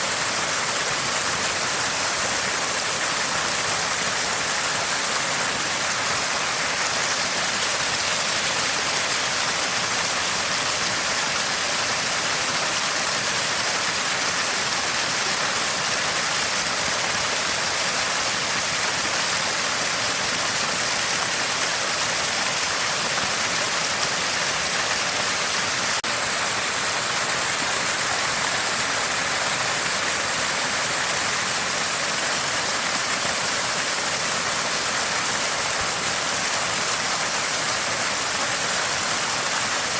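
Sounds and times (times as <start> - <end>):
spring water gurgling and splashing: 0.0 - 39.9.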